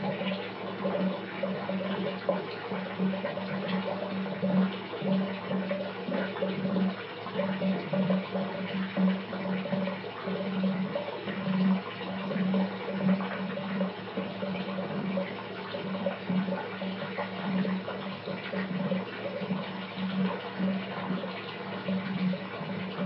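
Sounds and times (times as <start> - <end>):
tap water filling a bathtub: 0.0 - 23.0.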